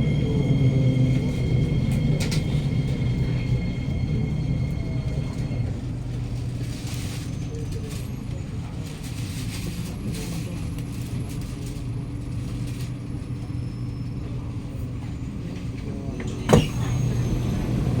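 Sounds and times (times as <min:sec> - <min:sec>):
train running hum and rumble: 0:00.0 - 0:18.0.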